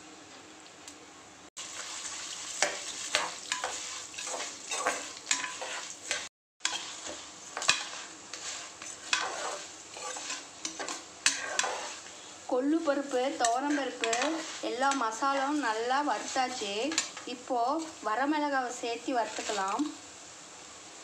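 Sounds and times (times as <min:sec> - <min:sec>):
steel spoon scraping a pan: 0:01.6 - 0:18.1, 0:18.7 - 0:20.0
spices frying in oil: 0:01.6 - 0:21.0.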